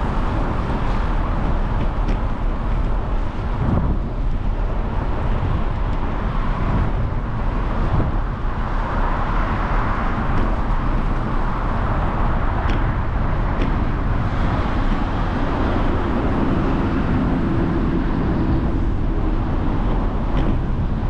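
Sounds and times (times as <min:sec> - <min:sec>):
bicycle road and wind noise: 0:00.0 - 0:21.0.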